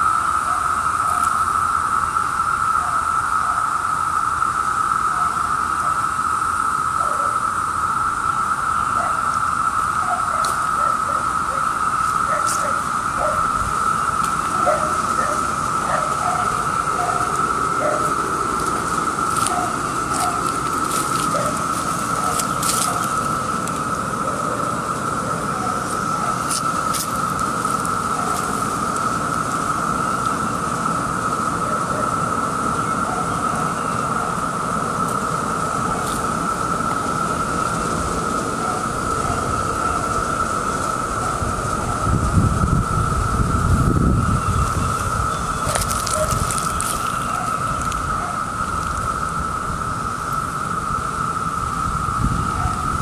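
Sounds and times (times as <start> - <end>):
cicadas droning: 0.0 - 53.0.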